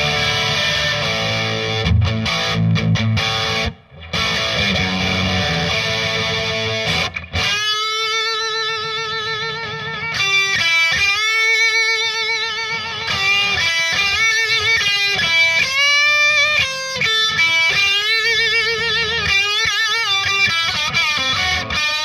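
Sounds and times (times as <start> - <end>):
overdriven electric guitar lead: 0.0 - 22.0.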